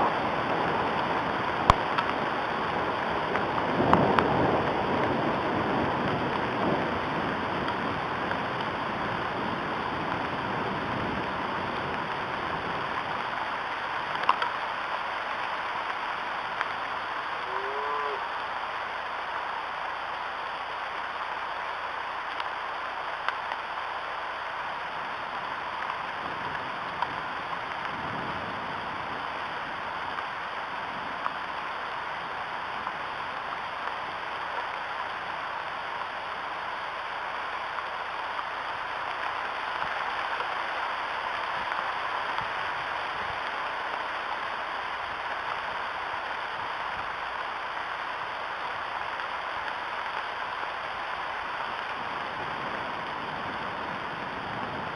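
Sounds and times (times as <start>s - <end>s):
sharp raindrop ticks: 0.0s - 18.2s, 19.1s - 28.8s, 29.6s - 54.7s
rain on sticks and leaves: 0.0s - 54.9s.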